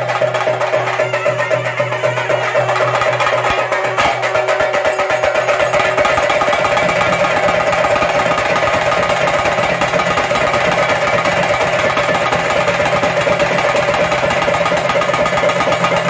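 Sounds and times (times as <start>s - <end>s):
drums in fast roll: 0.0s - 16.0s
steady ringing tone: 0.9s - 16.0s.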